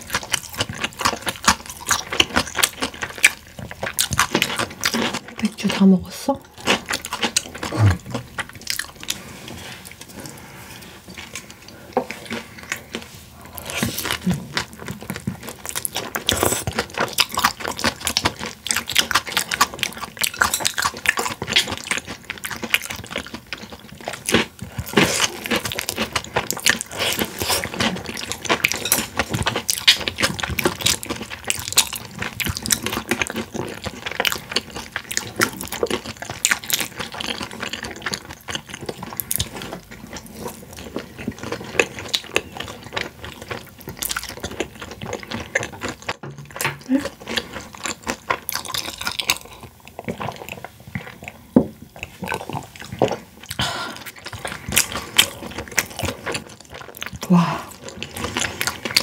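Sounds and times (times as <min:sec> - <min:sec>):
chewing and smacking mouth sounds: 0:00.0 - 0:59.0.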